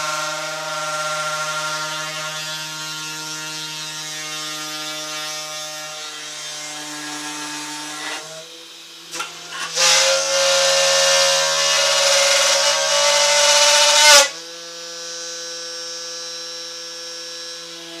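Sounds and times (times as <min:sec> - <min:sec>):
drill bit cutting through material: 0:00.0 - 0:18.0.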